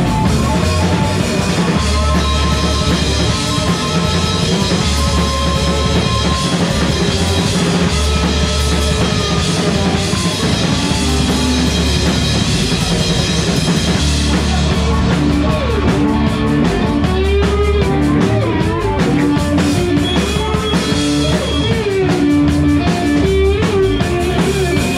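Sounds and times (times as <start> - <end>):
drum kit beat: 0.0 - 24.9
guitars: 0.0 - 24.9.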